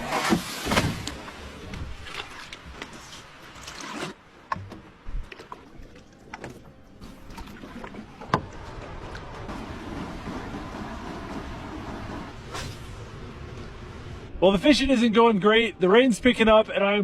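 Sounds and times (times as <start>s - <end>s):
water swishing: 0.0s - 14.5s.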